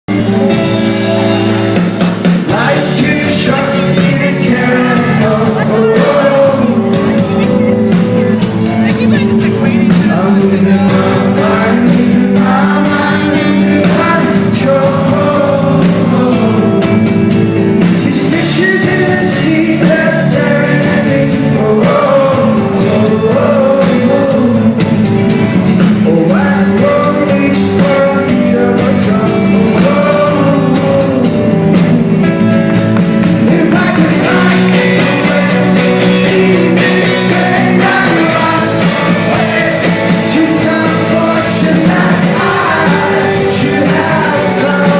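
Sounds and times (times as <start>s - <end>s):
lead singer: 0.0s - 44.9s
rock band backing: 0.0s - 44.9s.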